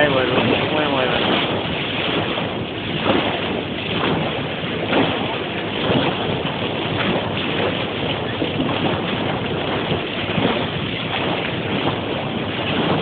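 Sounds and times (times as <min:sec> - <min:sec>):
water rushing along boat bow: 0:00.0 - 0:13.0
wind buffeting microphone: 0:00.0 - 0:13.0.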